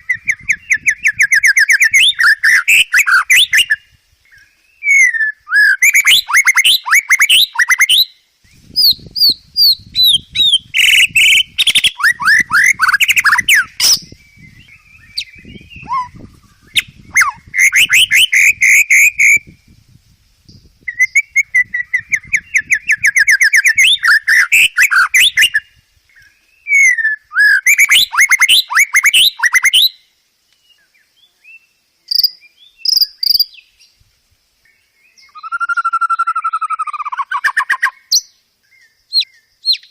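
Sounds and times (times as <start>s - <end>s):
bird singing whistles and trills: 0.0s - 19.8s, 20.4s - 34.0s, 34.6s - 39.9s.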